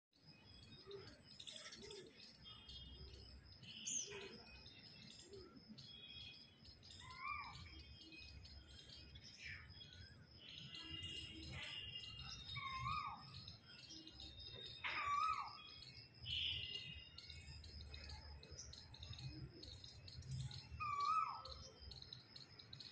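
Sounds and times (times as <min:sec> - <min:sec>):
small birds chirping: 0:00.1 - 0:22.9.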